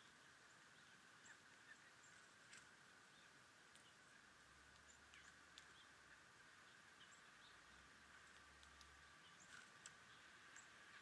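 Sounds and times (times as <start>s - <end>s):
faint bird chirps: 0.0s - 11.0s
steady background hiss: 0.0s - 11.0s.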